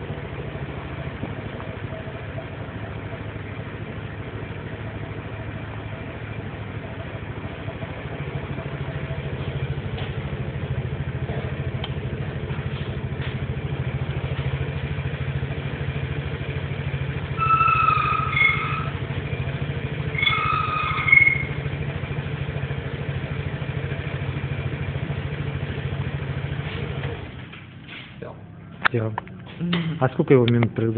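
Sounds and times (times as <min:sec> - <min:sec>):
scooter engine idling: 0:00.0 - 0:30.9.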